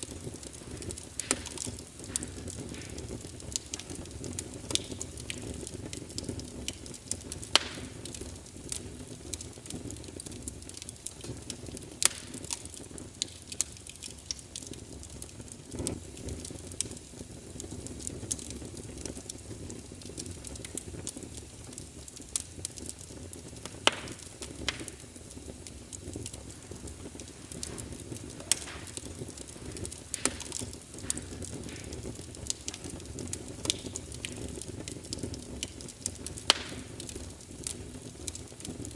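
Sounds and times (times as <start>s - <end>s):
fire hissing: 0.0s - 38.9s
sharp pops of fire: 0.0s - 38.9s
wood fire crackling: 0.0s - 38.9s.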